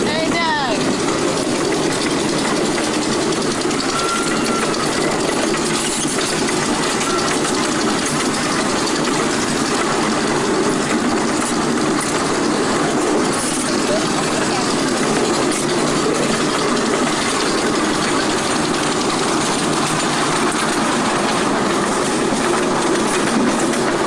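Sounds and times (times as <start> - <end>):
miniature train rumbling on track: 0.0 - 24.0.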